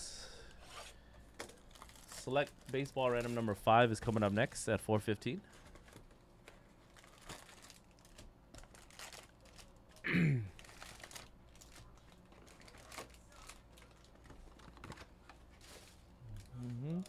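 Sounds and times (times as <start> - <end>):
foil packs crinkling: 1.3 - 4.6, 5.3 - 17.0.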